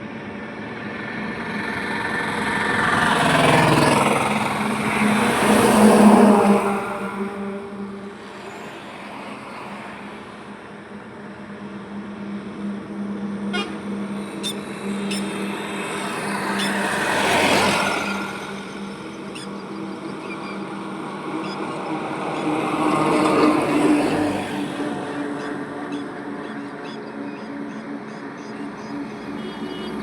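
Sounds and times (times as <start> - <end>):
highway traffic hum: 0.0 - 30.0
vehicle passing loudly: 0.6 - 30.0.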